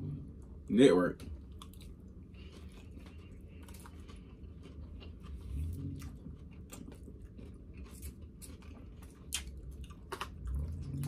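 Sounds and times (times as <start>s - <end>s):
person chewing food: 1.2s - 11.0s.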